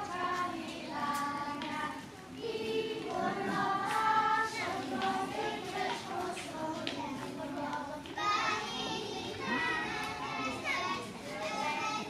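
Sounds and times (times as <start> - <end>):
young children singing in chorus: 0.0 - 12.0.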